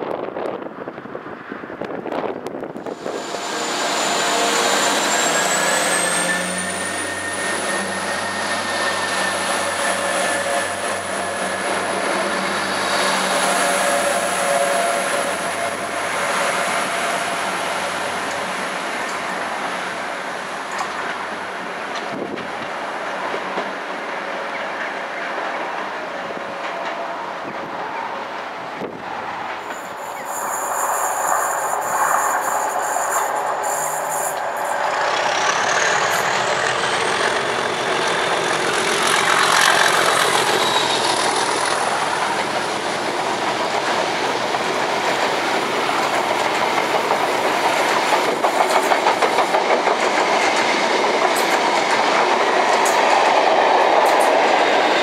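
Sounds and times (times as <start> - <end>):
train engine drone with whine: 0.0 - 55.0.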